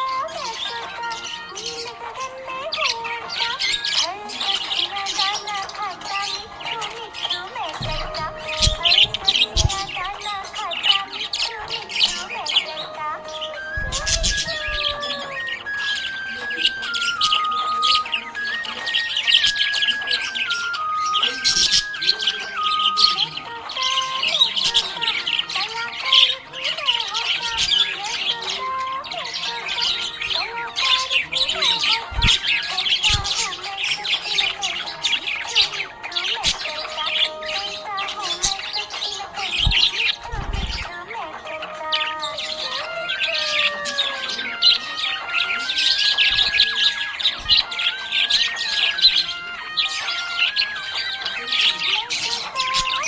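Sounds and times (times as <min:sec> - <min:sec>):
budgerigars chirping: 0:00.0 - 0:53.0.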